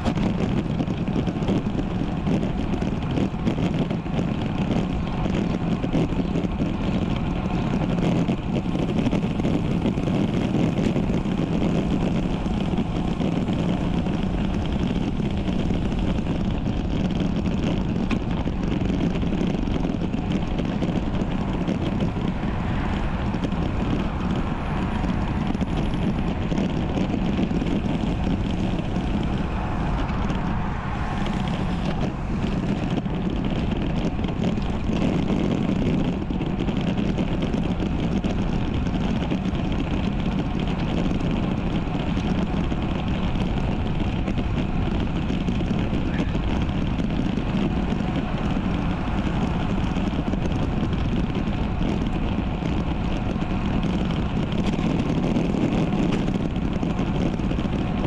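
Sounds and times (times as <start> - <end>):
bike road noise: 0.0 - 58.0
wind noise: 0.0 - 58.0.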